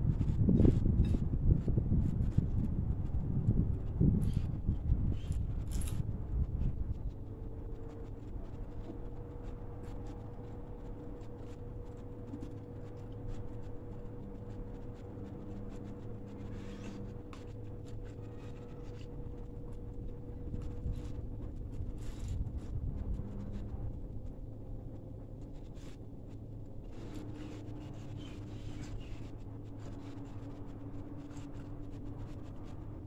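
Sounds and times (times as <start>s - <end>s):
low hum: 0.0s - 33.0s.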